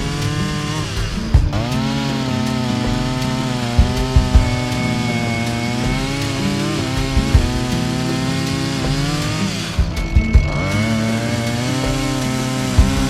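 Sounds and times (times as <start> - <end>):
chainsaw running under load: 0.0 - 13.0
sharp knocks: 0.0 - 13.0.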